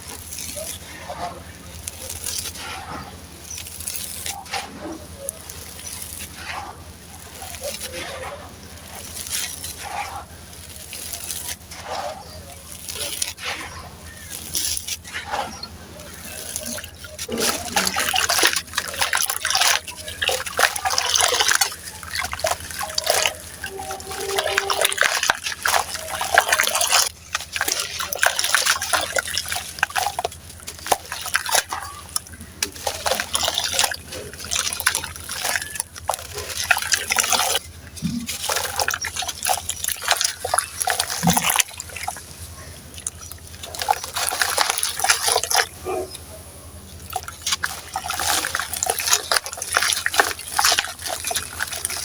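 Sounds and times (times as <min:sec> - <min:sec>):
sand-cement crunching: 0:00.0 - 0:52.0
water dripping and sloshing: 0:00.0 - 0:52.0.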